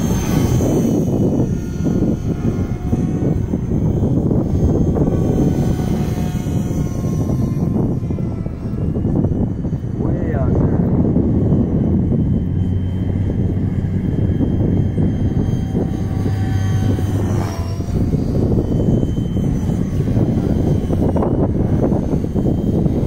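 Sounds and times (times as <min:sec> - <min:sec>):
high whine gliding down in pitch: 0:00.0 - 0:23.0
rc helicopter rotor and motor drone: 0:00.0 - 0:23.0.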